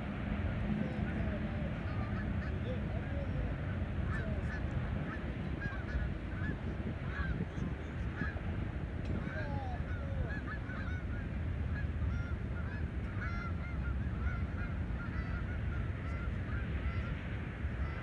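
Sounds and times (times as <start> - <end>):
geese honking: 0.0 - 18.0
wind on microphone: 0.0 - 18.0.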